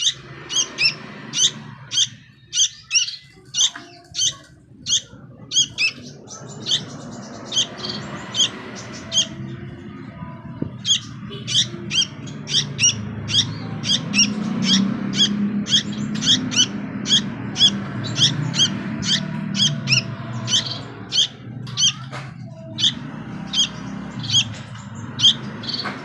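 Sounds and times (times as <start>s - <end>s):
bird chirping calls: 0.0s - 26.0s.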